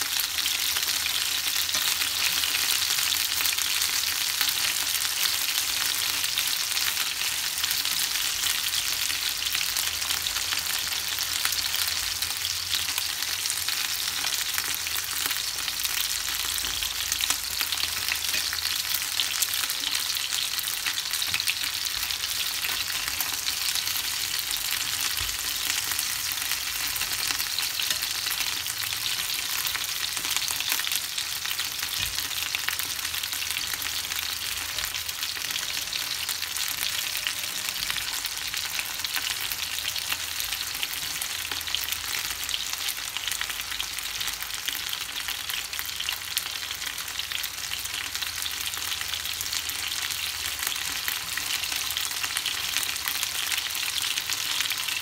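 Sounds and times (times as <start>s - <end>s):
chicken wings sizzling in oil: 0.0s - 55.0s.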